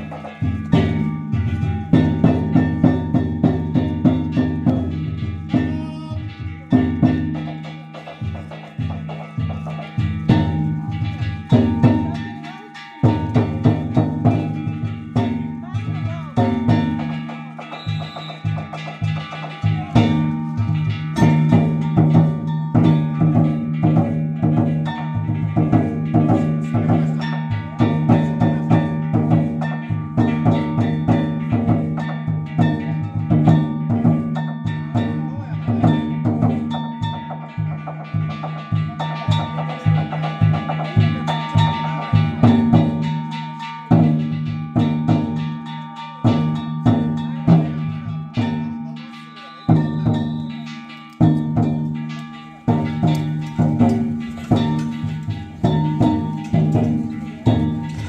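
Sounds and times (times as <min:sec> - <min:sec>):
metal gong ringing: 0:00.0 - 0:58.0
percussive strikes: 0:00.0 - 0:58.0.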